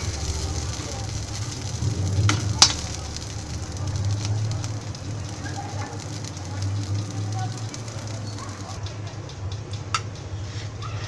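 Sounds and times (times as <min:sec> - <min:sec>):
faint sizzle: 0:00.0 - 0:08.9.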